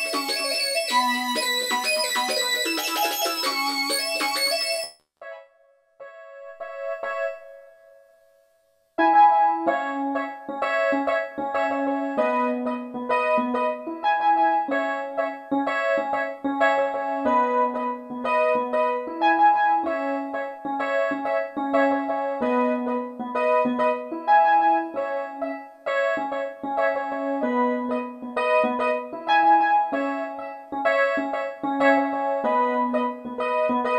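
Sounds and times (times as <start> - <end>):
synthesizer playing piano chords: 0.0 - 4.9, 6.4 - 8.0, 9.0 - 33.9.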